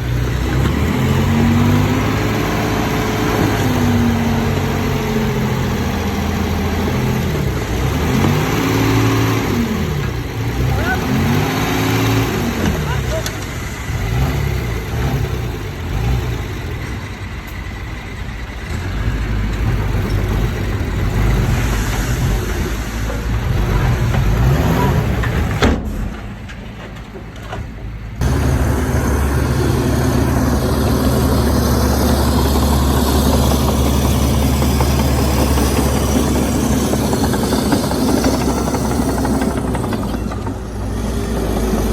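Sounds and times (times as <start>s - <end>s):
deep engine drone: 0.0s - 26.6s, 28.0s - 41.9s
heavy diesel engine under load: 0.0s - 41.9s.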